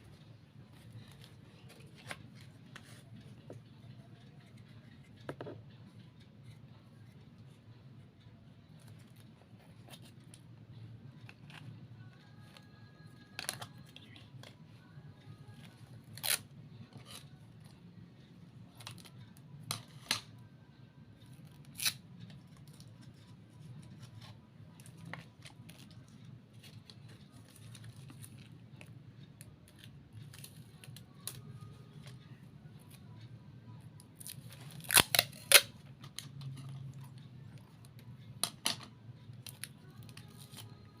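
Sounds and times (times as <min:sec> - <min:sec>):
faint music: 0:00.0 - 0:41.0.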